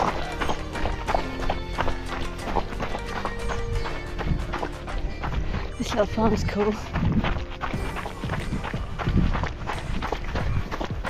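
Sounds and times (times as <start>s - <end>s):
footsteps on gravel: 0.0s - 11.0s
music with held notes: 0.0s - 11.0s.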